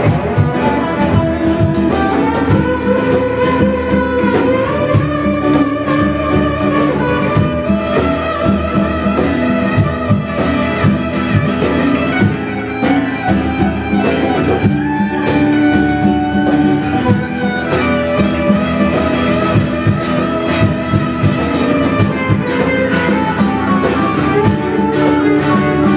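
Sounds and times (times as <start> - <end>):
guitar accompaniment: 0.0 - 25.9
live band instrumental: 0.0 - 25.9.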